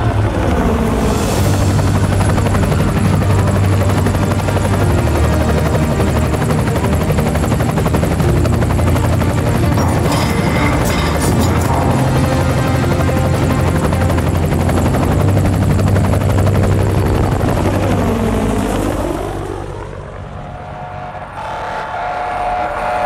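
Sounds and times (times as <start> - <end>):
helicopter rotor chop: 0.0 - 21.6
steady low drone: 0.0 - 23.0.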